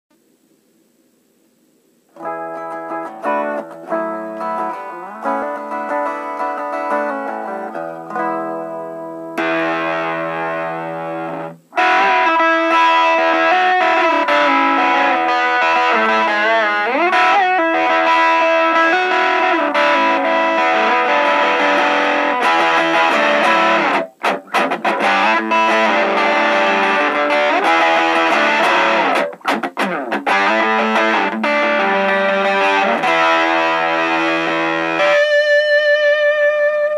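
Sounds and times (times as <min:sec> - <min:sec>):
fuzz electric guitar: 0:02.2 - 0:36.9.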